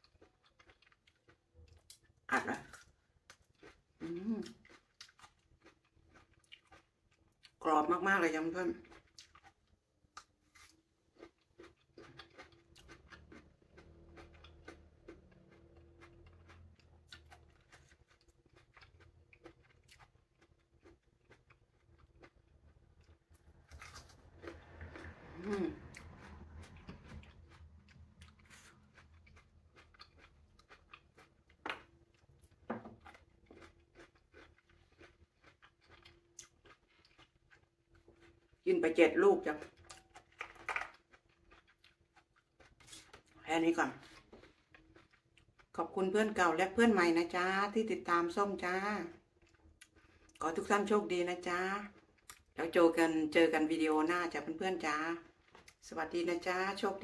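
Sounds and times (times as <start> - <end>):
crunching and chewing plum: 0.0 - 47.2, 49.1 - 52.7, 55.2 - 55.9.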